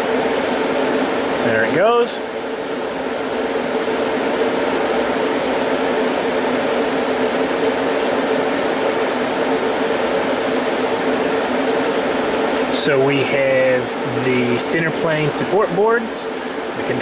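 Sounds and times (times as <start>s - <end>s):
server cooling fans rushing: 0.0s - 17.0s.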